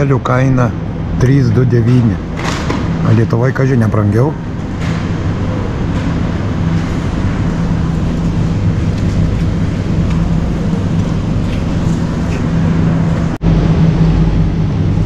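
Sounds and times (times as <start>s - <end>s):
refrigeration and ventilation hum: 0.0s - 15.0s.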